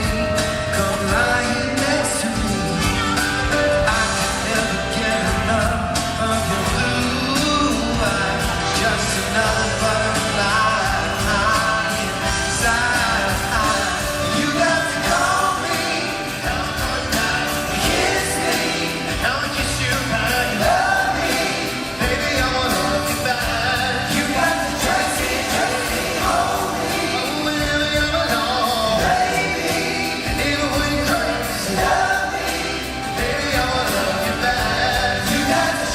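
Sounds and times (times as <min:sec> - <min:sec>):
live pop band: 0:00.0 - 0:35.9
male group singing: 0:00.0 - 0:35.9.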